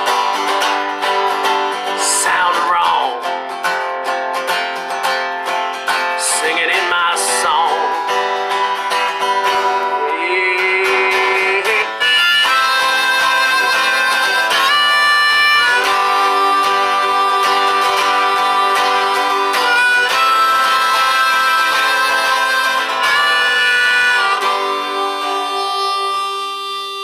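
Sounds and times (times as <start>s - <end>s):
harmonica solo: 0.0s - 2.6s, 3.6s - 27.0s
strummed acoustic guitar: 0.0s - 27.0s.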